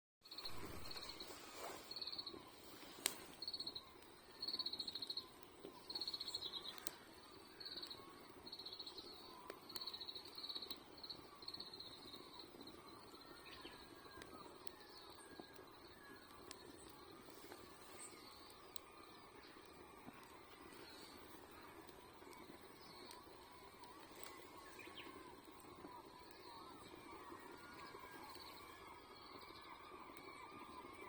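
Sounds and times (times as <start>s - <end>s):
faint steady rustle: 0.3s - 31.0s.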